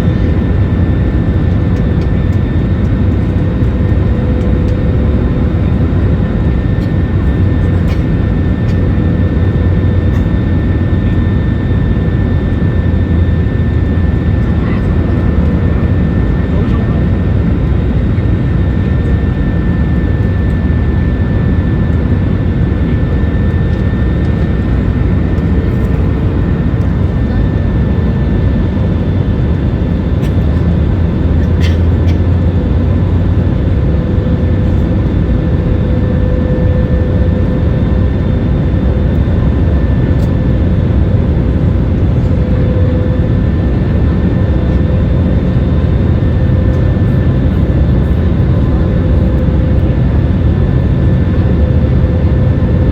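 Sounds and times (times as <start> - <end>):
airliner cabin engine and air rush: 0.0 - 52.9.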